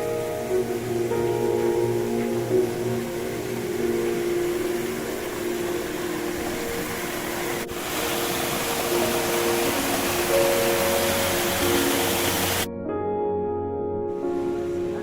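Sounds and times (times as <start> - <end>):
loud rushing hiss: 0.0 - 12.7, 14.2 - 15.0
steady hiss: 0.0 - 12.7, 14.1 - 15.0
soft sustained background music: 0.0 - 15.0.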